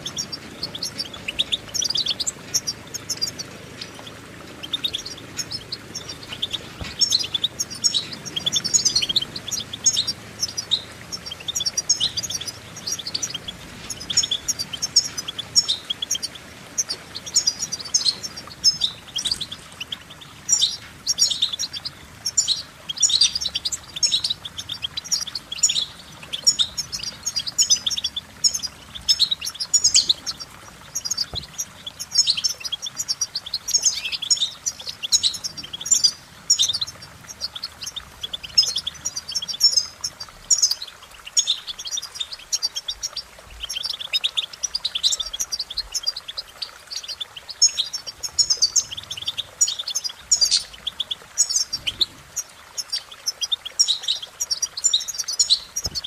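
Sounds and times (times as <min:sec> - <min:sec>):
finch singing: 0:00.0 - 0:56.0.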